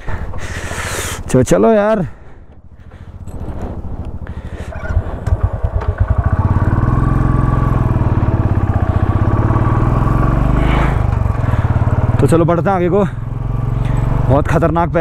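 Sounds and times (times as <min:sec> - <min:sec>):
motorcycle engine pulling away: 0:02.9 - 0:14.9.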